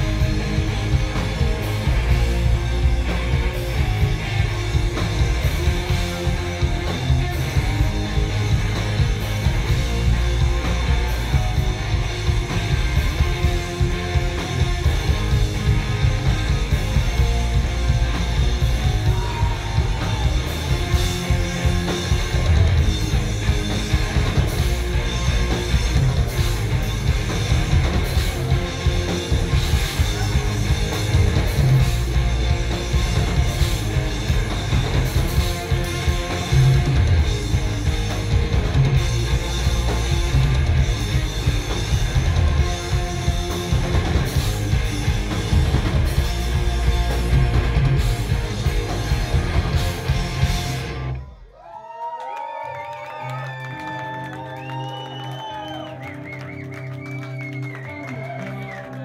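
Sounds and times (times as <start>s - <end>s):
loud rock band playing: 0.0s - 51.5s, 52.8s - 59.0s.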